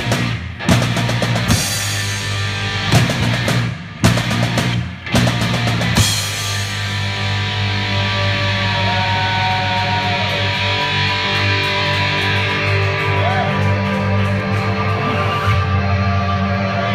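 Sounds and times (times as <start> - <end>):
bass guitar ringing: 0.0 - 16.9
distorted electric guitar: 0.0 - 16.9.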